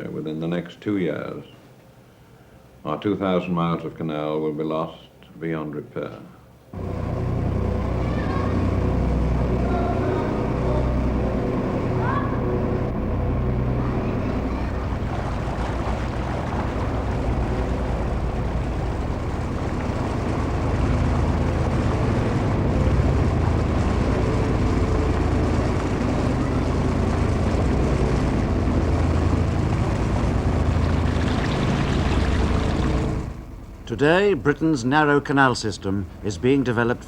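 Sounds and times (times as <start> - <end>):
boat engine chugging: 6.8 - 37.0.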